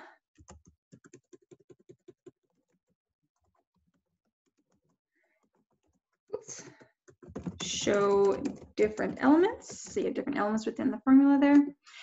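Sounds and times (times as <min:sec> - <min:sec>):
keyboard typing: 0:00.4 - 0:10.5.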